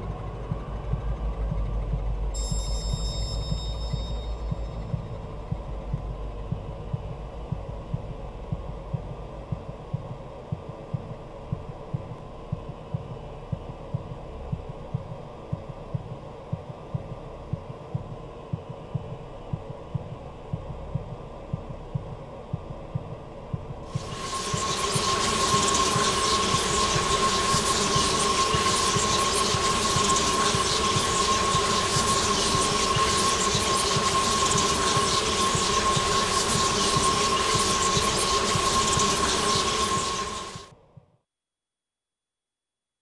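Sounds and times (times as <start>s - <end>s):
low thudding pulse: 0.0s - 40.7s
steady low hum: 0.0s - 40.7s.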